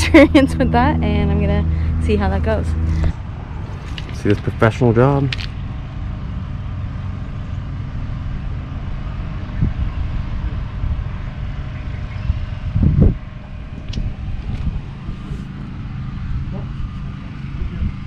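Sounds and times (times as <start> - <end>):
steady low rumble: 0.0 - 18.0
wind buffeting microphone: 0.0 - 18.0.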